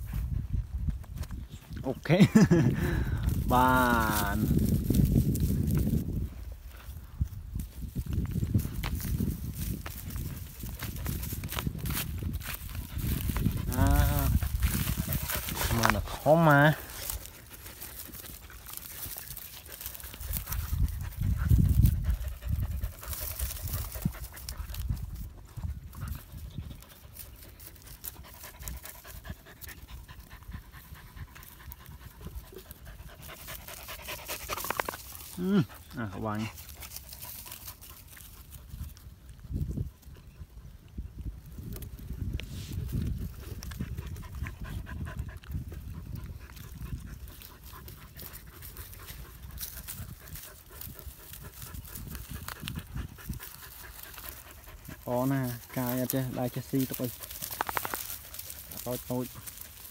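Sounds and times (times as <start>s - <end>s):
dogs panting: 0.0s - 59.9s.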